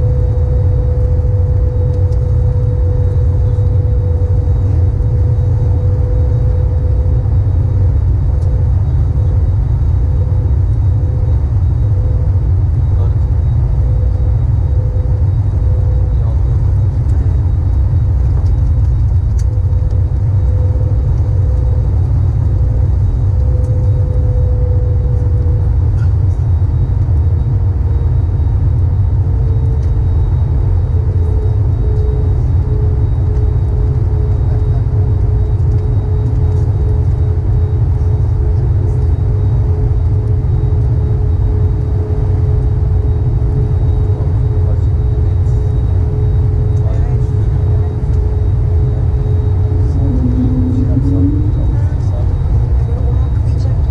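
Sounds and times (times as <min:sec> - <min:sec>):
airplane cabin engine rumble: 0:00.0 - 0:53.9
faint steady tone: 0:00.0 - 0:53.9.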